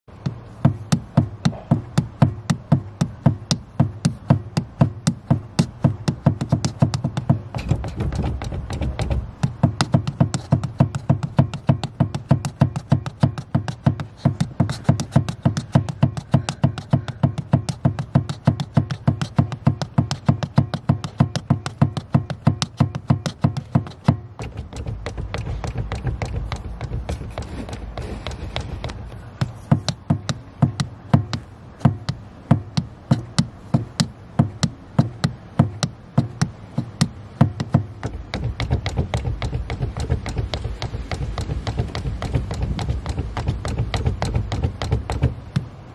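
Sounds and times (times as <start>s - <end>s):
accelerator pedal clicking: 0.1s - 45.7s
steady low hum: 0.1s - 45.9s.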